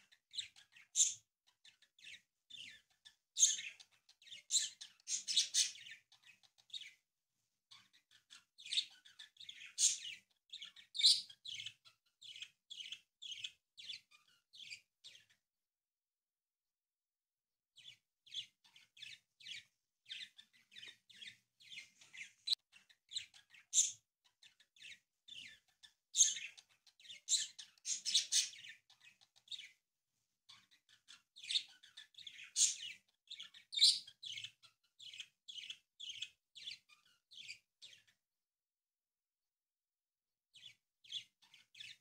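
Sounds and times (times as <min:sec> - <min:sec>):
small bird chirping: 0:00.0 - 0:07.0, 0:07.7 - 0:15.4, 0:17.8 - 0:29.8, 0:30.5 - 0:38.2, 0:40.5 - 0:42.0.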